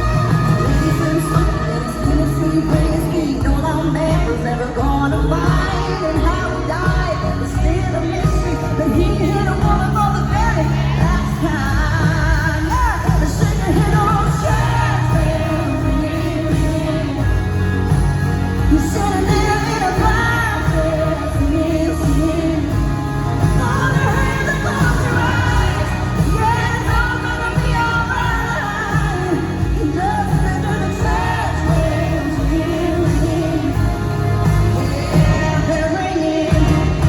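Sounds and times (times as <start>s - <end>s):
live band with heavy bass: 0.0s - 37.0s
woman singing: 0.0s - 37.0s.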